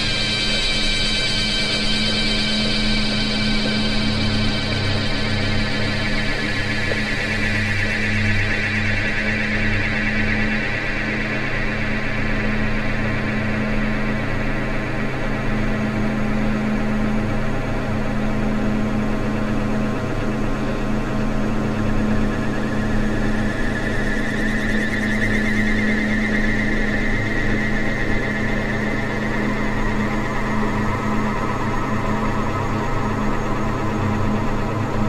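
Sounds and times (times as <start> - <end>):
dark ambient drone music: 0.0 - 35.0.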